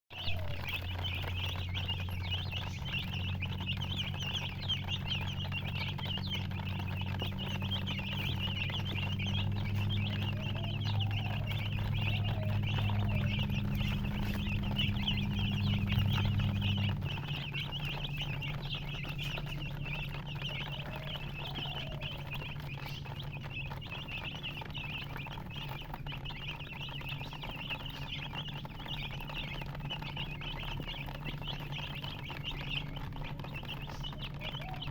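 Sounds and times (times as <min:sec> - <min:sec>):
low hum: 0:00.1 - 0:34.8
baby chicks peeping: 0:00.1 - 0:34.9.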